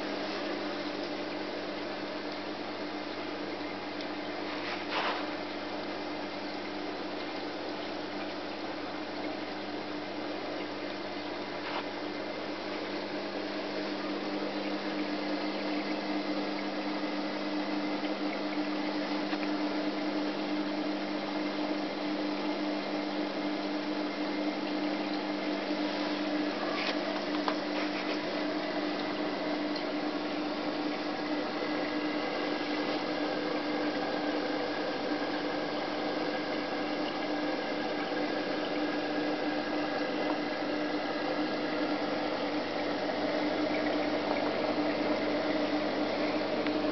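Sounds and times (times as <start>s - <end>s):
circulating water rushing: 0.0s - 46.9s
electrical hum: 0.0s - 46.9s.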